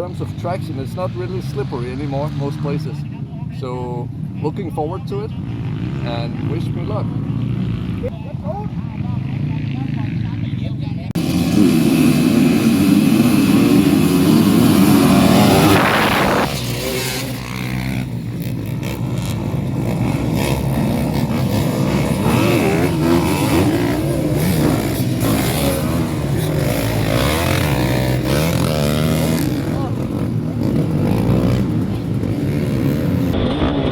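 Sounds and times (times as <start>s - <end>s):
dirt bikes revving: 0.0s - 33.8s.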